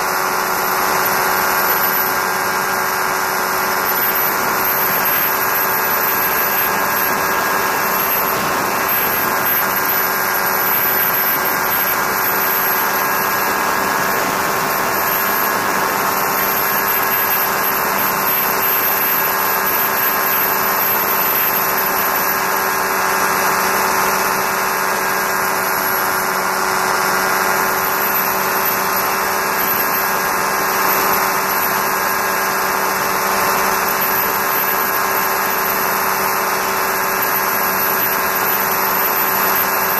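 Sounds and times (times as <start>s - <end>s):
ultralight engine and propeller drone: 0.0s - 39.9s.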